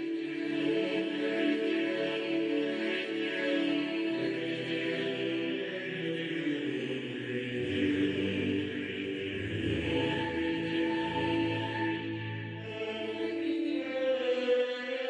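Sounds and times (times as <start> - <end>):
slow choral singing: 0.0 - 15.0.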